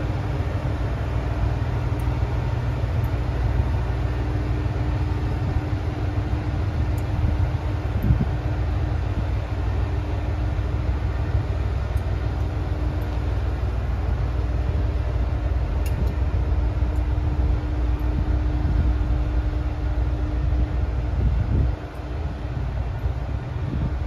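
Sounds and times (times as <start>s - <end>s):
diesel railcar engine running: 0.0s - 24.0s.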